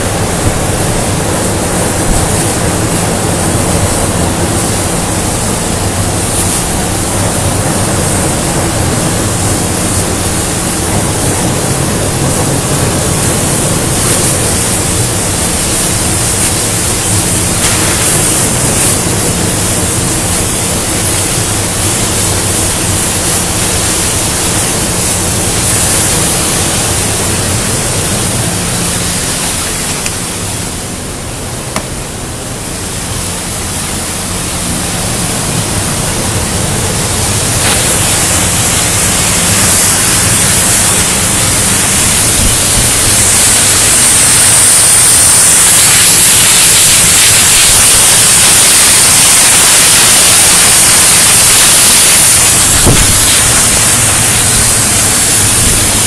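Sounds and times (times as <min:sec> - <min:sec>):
cutting torch hissing: 0:00.0 - 0:56.0
low machine hum: 0:00.0 - 0:56.0.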